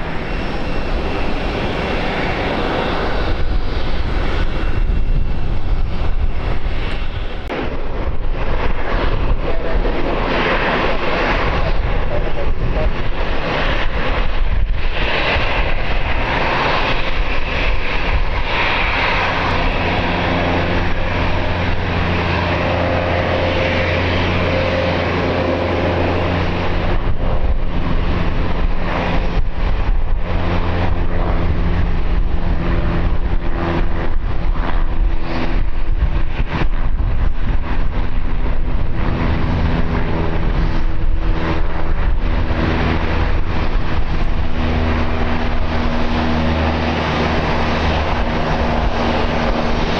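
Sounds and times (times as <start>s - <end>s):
airliner engines running: 0.0s - 49.9s
wind buffeting microphone: 0.0s - 49.9s.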